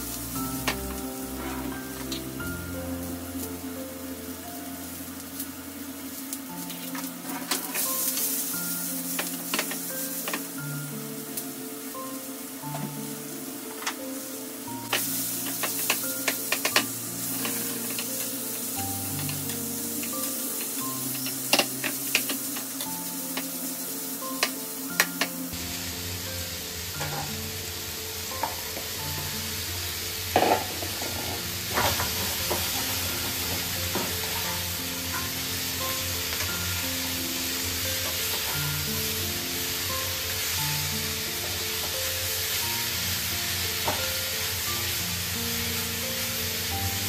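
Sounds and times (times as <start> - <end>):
background music: 0.0 - 47.0
food sizzling in hot oil: 0.0 - 47.0.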